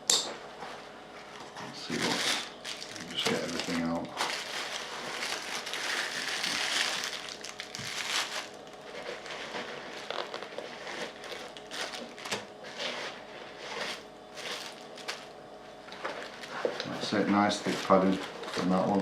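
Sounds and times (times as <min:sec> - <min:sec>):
packaging rustling and crinkling: 0:01.8 - 0:15.3, 0:15.9 - 0:19.0.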